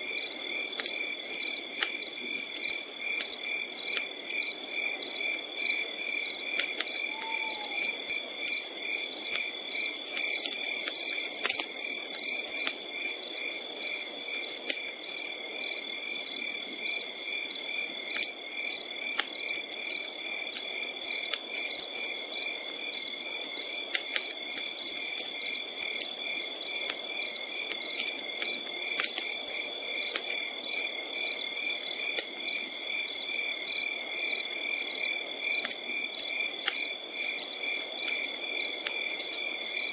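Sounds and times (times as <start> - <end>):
campfire crackling: 0.0 - 39.9
crickets chirping: 0.1 - 39.9.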